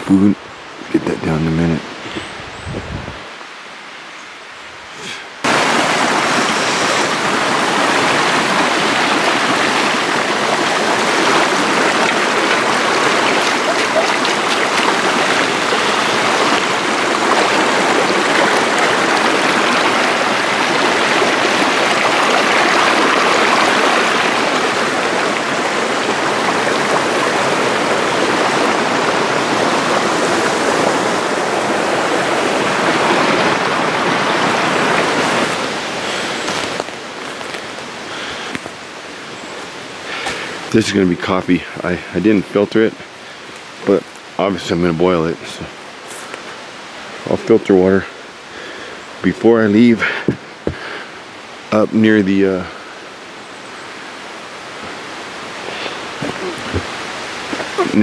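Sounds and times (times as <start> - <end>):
creek water rushing: 0.0 - 58.0.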